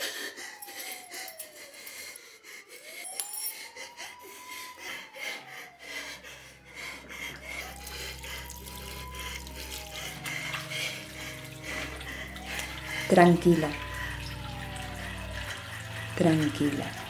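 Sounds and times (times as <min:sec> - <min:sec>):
low steady drone: 0:00.0 - 0:17.0
slow rising and falling music: 0:00.0 - 0:17.0.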